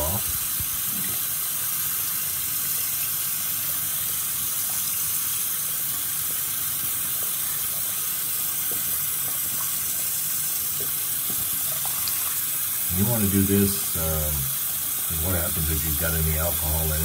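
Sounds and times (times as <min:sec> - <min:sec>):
tap water running into sink: 0:00.0 - 0:17.0.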